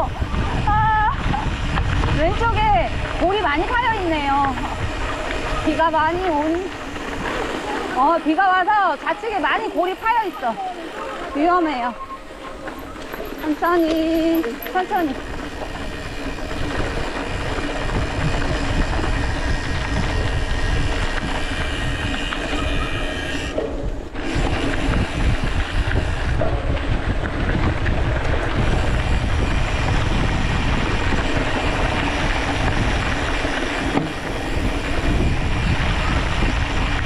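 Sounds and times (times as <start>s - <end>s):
bike rattling over bumps: 0.0s - 37.0s
tyres rumbling on gravel: 0.0s - 37.0s.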